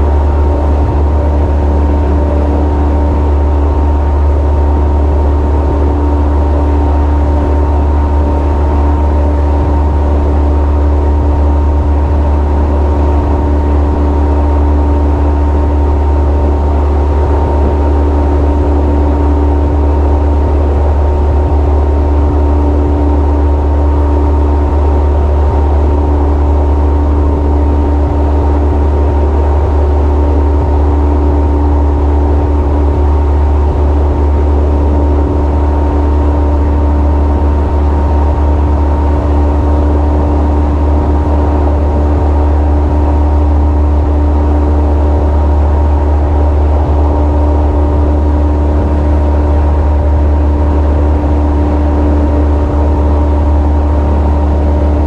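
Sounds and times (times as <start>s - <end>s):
powerboat engines droning: 0.0s - 55.0s.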